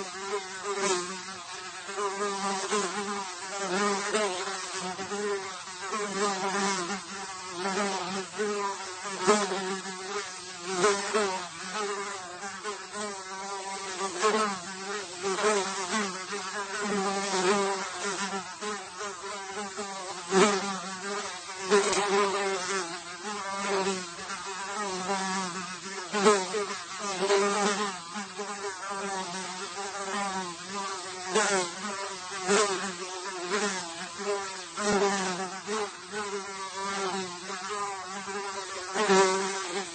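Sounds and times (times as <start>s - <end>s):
fly buzzing: 0.0s - 39.9s.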